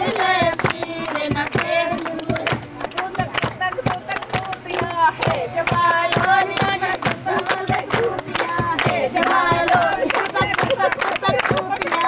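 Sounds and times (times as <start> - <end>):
voices singing folk song: 0.0 - 12.0.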